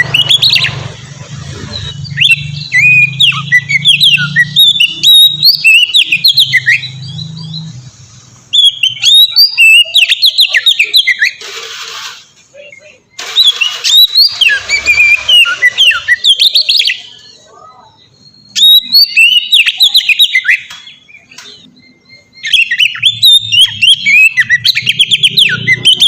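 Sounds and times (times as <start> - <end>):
bird singing whistled notes: 1.7 - 7.9, 8.5 - 11.4, 12.5 - 26.0.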